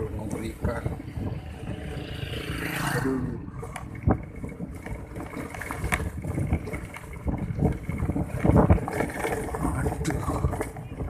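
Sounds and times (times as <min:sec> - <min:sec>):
vehicle rumbling over rough road: 0:00.0 - 0:11.0
wind buffeting microphone: 0:00.0 - 0:11.0.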